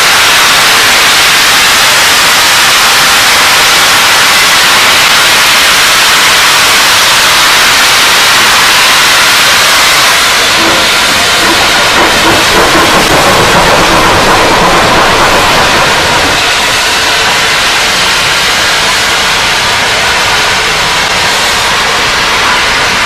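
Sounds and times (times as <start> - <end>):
steam hissing: 0.0 - 23.0.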